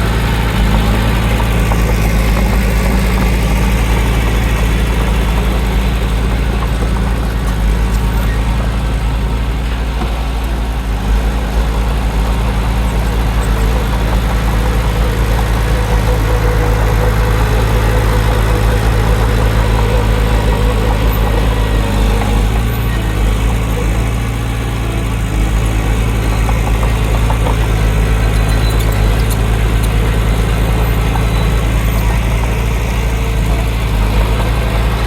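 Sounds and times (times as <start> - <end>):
heavy diesel engine humming: 0.0 - 35.0.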